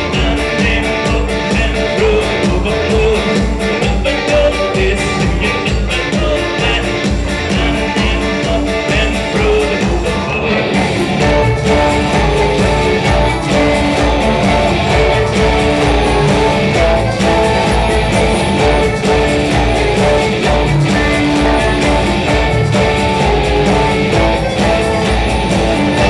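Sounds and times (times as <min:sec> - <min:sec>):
electric guitar strumming: 0:00.0 - 0:26.0
steady drum beat: 0:00.0 - 0:26.0.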